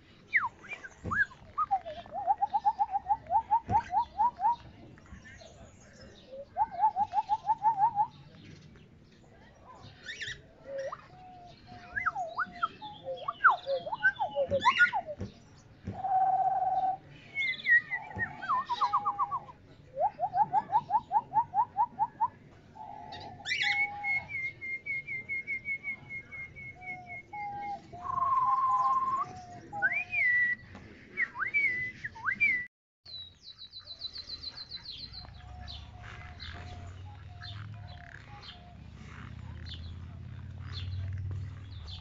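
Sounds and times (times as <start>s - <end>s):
cage birds whistling and chirping: 0.2s - 8.4s, 9.9s - 40.0s, 40.6s - 42.0s.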